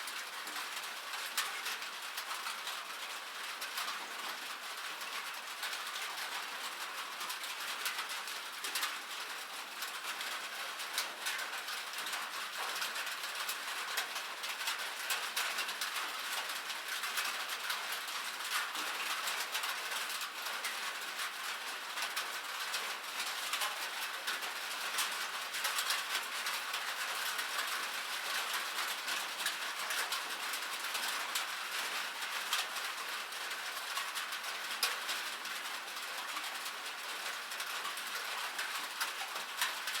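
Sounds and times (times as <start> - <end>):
rain on a roof: 0.0 - 40.0
raindrops ticking: 0.1 - 40.0.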